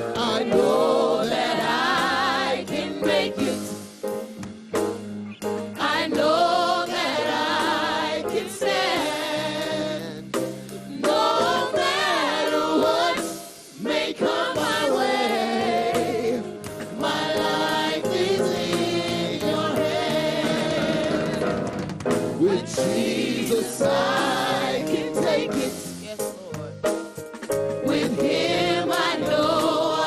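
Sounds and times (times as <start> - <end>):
gospel choir singing: 0.0 - 4.1, 5.8 - 26.3, 27.8 - 30.0.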